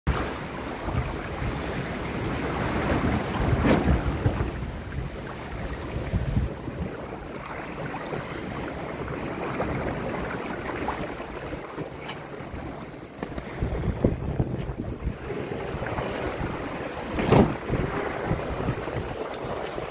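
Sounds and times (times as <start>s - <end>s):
water splashing along boat hull: 0.1s - 19.9s
wind buffeting microphone: 0.1s - 19.9s.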